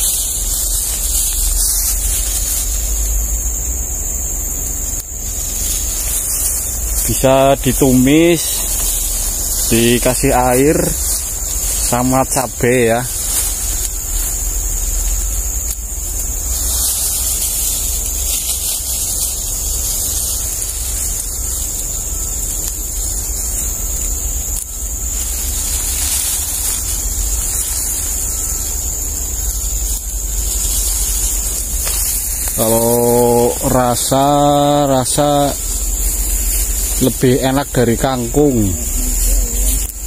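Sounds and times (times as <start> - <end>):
high hiss: 0.0 - 40.0.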